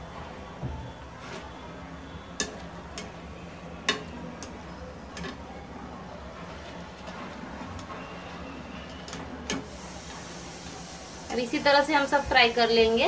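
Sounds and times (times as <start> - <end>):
dumplings sizzling in oil: 0.0 - 13.0.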